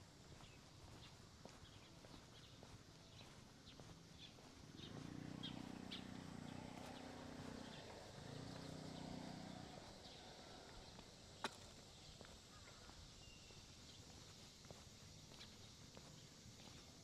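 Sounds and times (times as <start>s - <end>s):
footsteps on pavement: 0.0s - 17.0s.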